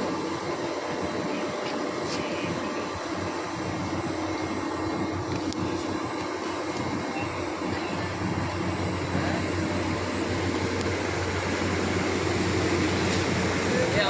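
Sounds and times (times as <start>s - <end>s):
heavy machinery humming: 0.0s - 14.0s.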